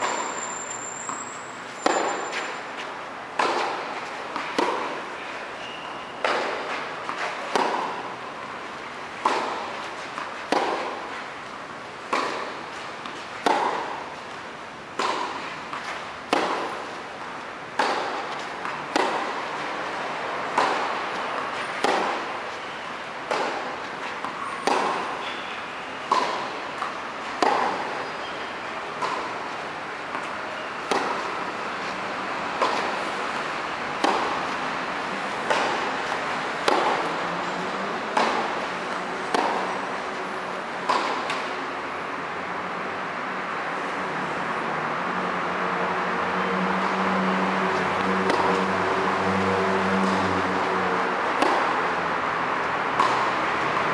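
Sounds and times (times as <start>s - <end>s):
tennis balls struck by racquets: 0.0s - 42.3s, 47.6s - 53.9s.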